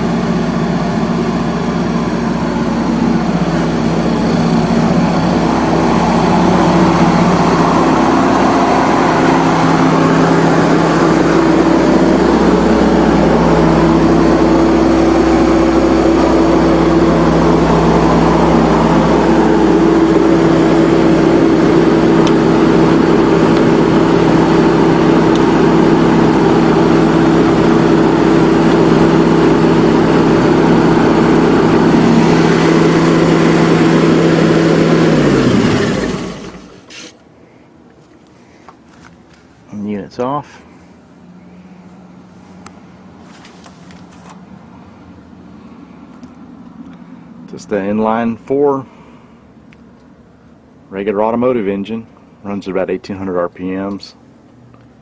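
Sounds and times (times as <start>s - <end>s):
generator engine hum: 0.0s - 55.0s.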